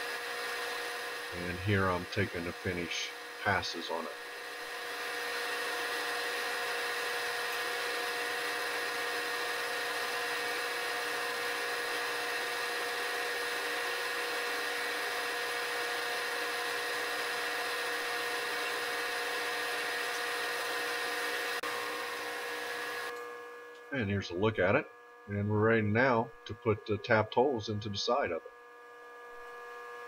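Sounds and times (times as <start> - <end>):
milling machine spindle whine: 0.0 - 24.5.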